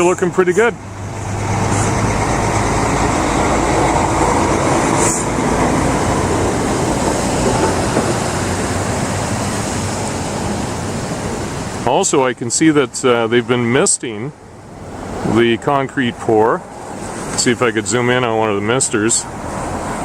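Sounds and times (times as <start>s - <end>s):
highway traffic rumble: 0.0s - 20.0s
low engine hum: 0.0s - 20.0s.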